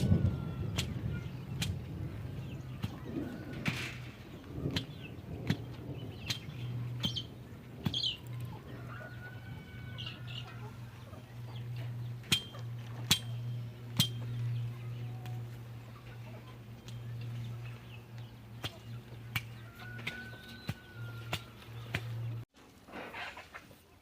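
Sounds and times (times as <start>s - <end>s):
birds chirping: 0.0s - 22.4s
steady low hum: 0.0s - 22.5s.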